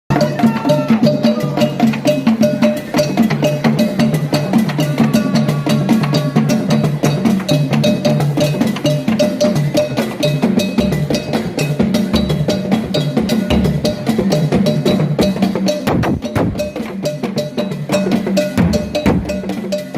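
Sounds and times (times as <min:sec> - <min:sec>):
fast hand drumming: 0:00.1 - 0:19.9.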